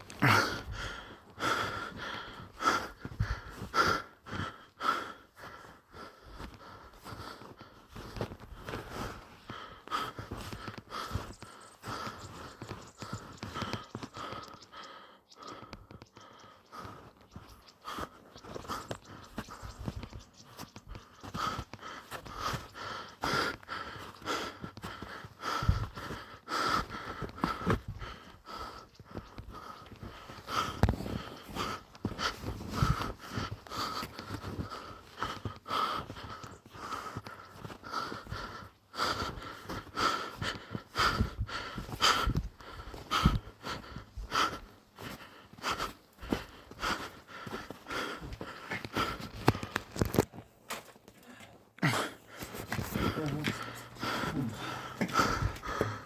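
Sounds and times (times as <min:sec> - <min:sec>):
person breathing hard: 0:00.0 - 0:50.3, 0:51.1 - 0:56.0.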